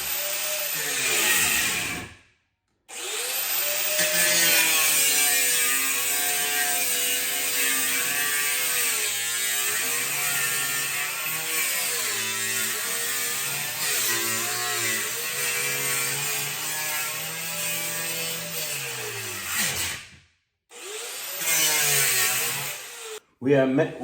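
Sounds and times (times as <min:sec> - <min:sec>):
power saw cutting through door: 0:00.0 - 0:02.2, 0:02.9 - 0:23.2.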